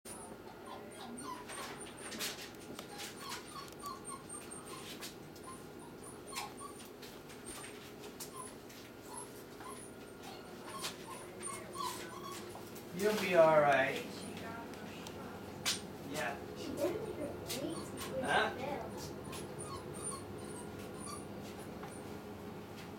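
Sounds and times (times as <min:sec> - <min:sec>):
dog whimpering: 0:00.1 - 0:12.7, 0:14.1 - 0:14.5, 0:16.6 - 0:22.1.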